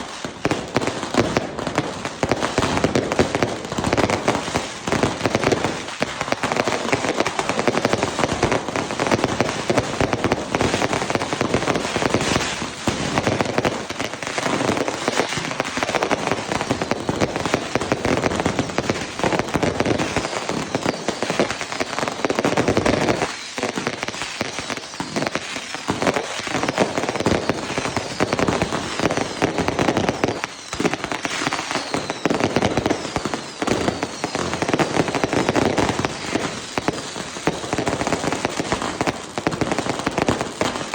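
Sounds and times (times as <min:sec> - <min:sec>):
firecracker bangs and crackles: 0:00.0 - 0:40.9
firework whistles: 0:00.0 - 0:40.9.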